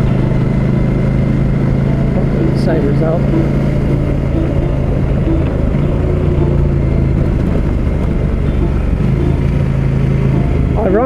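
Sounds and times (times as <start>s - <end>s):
heavy wind noise: 0.0s - 11.0s
motorcycle engine running: 0.0s - 11.0s.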